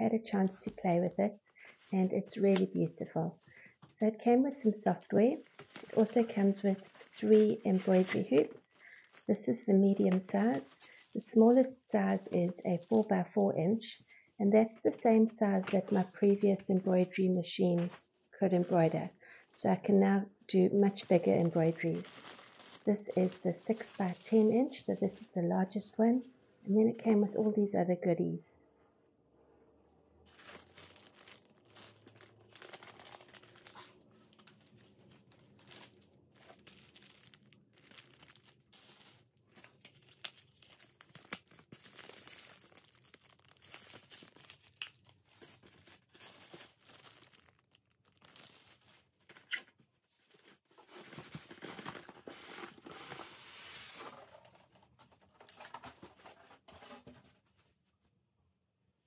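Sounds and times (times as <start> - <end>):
plastic bags rustling: 0.4 - 13.4, 15.4 - 25.3, 30.3 - 57.2.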